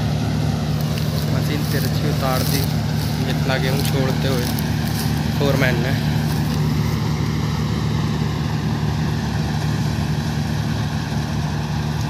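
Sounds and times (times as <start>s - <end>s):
noisy hiss: 0.0s - 9.9s
combine harvester engine drone: 0.0s - 12.0s.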